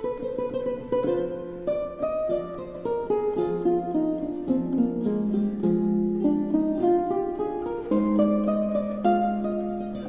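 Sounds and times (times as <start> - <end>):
plucked string instrument melody: 0.0 - 10.0.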